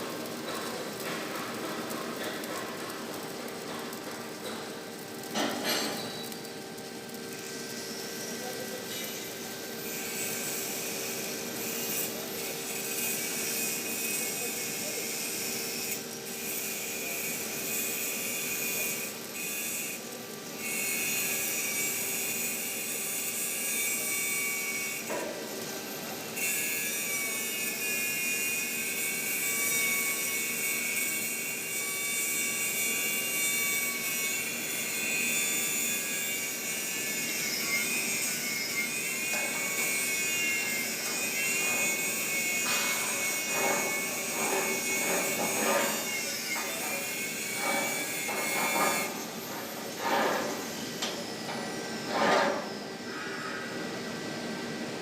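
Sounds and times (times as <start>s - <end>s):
arc welding hiss: 0.0s - 55.0s.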